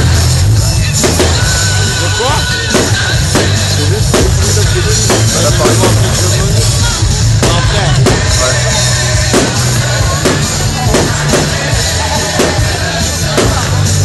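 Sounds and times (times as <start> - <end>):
loud music with drums: 0.0 - 14.0
firework shells bursting: 1.0 - 14.0.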